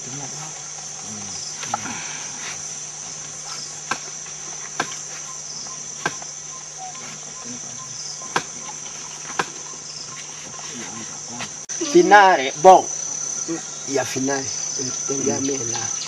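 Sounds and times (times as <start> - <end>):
insect chorus shrilling: 0.0 - 16.0.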